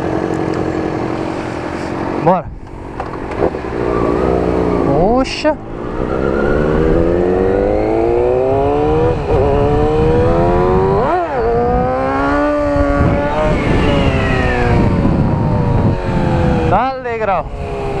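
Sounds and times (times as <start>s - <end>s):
motorcycle engine accelerating: 0.0s - 18.0s
wind over microphone: 0.8s - 18.0s.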